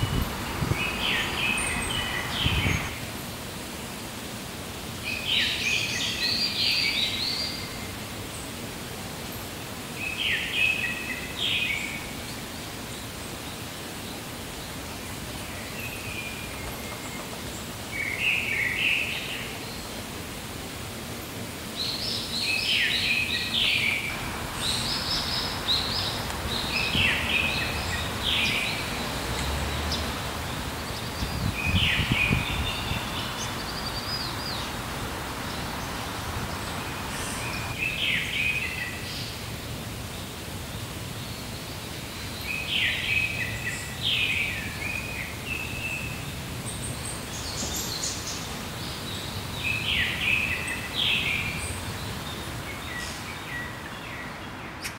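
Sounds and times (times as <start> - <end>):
small birds chirping: 0.0 - 3.2, 9.3 - 54.9
outdoor background hiss: 0.0 - 54.9.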